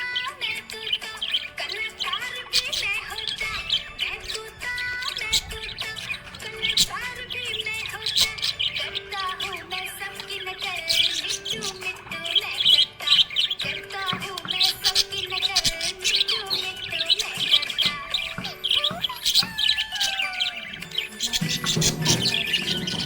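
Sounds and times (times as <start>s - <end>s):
background music: 0.0s - 23.0s
budgerigars chirping: 0.0s - 23.0s.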